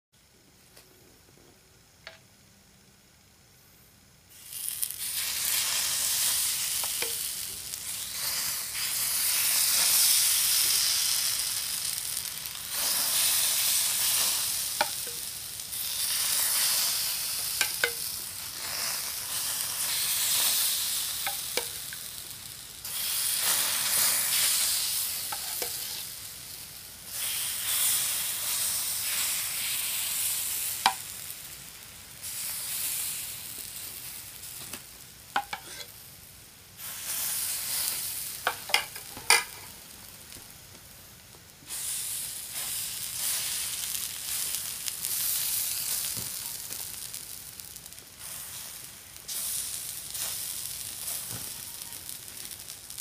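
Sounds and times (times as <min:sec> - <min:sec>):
batter sizzling on hot plate: 0:04.1 - 0:53.0.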